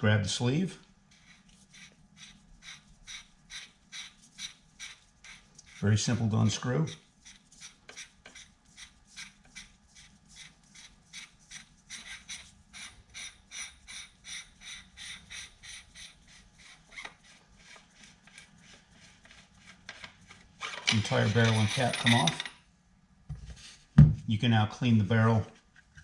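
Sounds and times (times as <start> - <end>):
threads rasping while unscrewing: 1.1 - 22.2.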